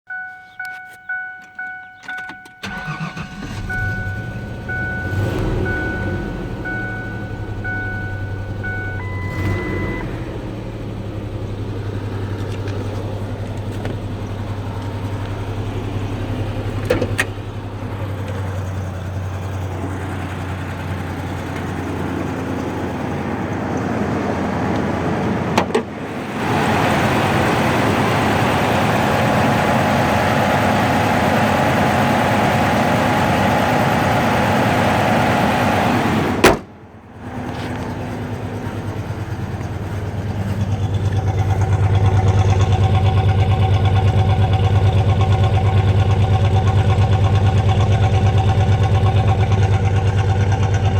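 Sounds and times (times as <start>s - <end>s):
engine running with misfire: 2.2s - 50.9s.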